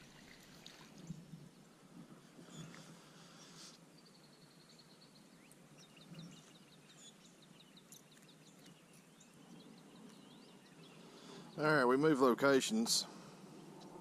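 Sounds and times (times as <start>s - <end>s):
songbird trill: 0.0s - 14.0s.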